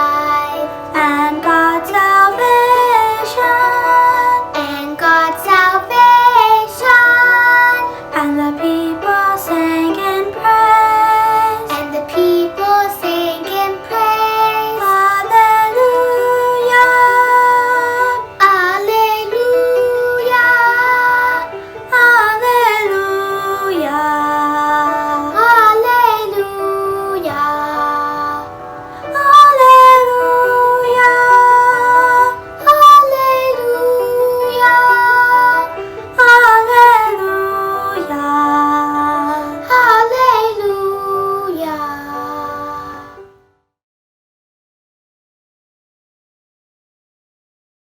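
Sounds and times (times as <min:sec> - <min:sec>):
children's choir singing: 0:00.0 - 0:43.3.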